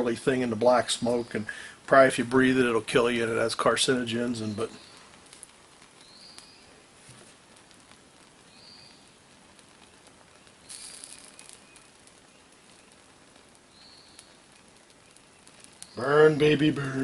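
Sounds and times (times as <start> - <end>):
tire plug burning hiss: 0.9 - 2.0, 3.2 - 17.0.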